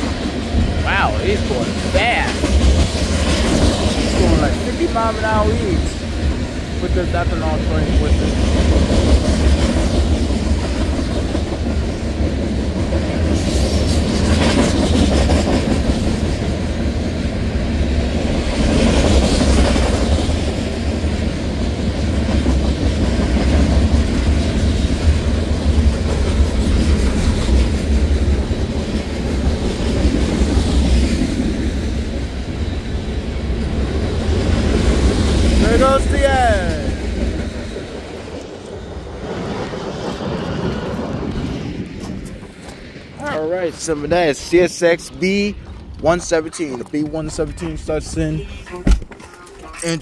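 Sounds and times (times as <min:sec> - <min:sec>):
freight train rolling past: 0:00.0 - 0:50.0.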